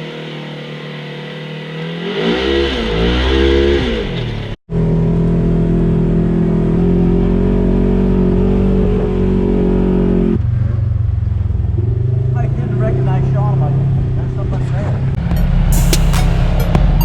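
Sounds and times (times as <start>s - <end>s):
off-road vehicle engine revving: 0.0s - 16.7s.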